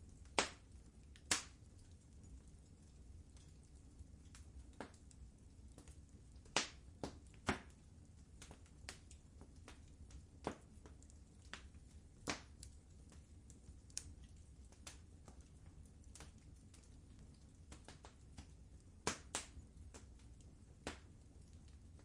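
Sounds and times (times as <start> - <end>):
faint low rumble: 0.0 - 22.0
wood fire crackling and popping: 0.0 - 22.0.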